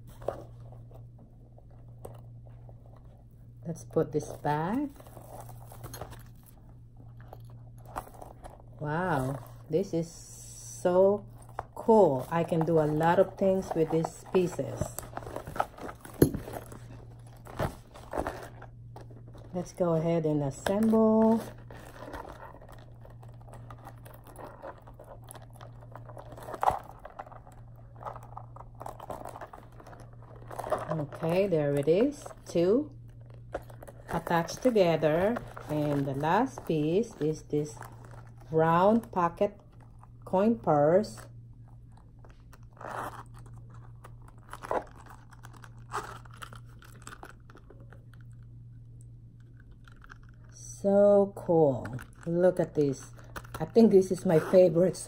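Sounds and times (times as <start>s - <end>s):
steady low hum: 0.0s - 55.0s
packaging rustling: 4.3s - 9.7s, 11.2s - 19.8s, 20.5s - 40.3s, 41.6s - 48.5s, 49.4s - 50.5s, 51.8s - 54.6s.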